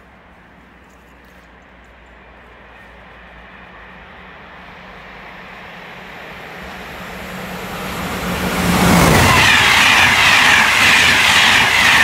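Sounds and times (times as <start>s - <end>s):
train approaching rumble: 0.0s - 12.0s.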